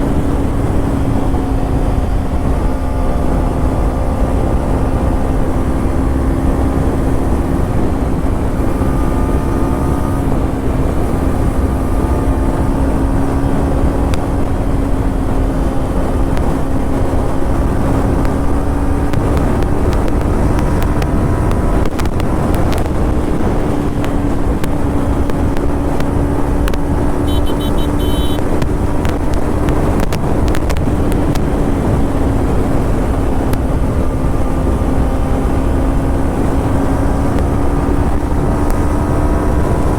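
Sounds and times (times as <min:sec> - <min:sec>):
low wind rumble: 0:00.0 - 0:39.9
motorcycle engine cruising: 0:00.0 - 0:39.9.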